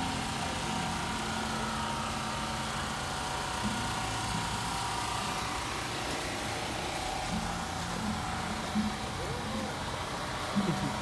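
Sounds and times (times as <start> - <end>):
engine idling: 0.0 - 11.0
faint steady whine: 0.0 - 11.0.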